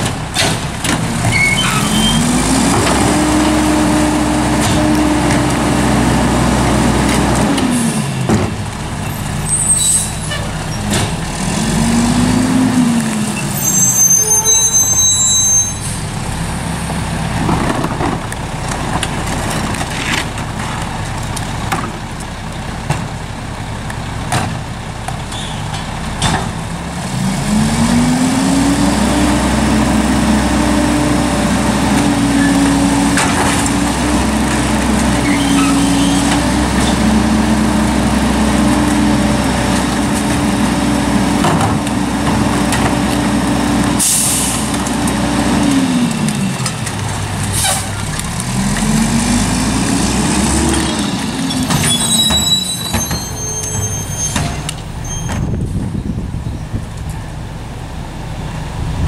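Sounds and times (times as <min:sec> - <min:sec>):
diesel truck engine revving: 0:00.0 - 0:19.8, 0:25.9 - 0:59.0.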